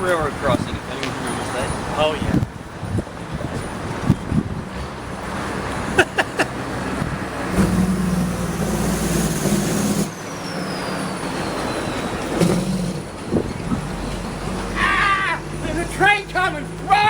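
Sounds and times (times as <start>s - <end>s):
vehicle engine humming: 2.6s - 17.0s.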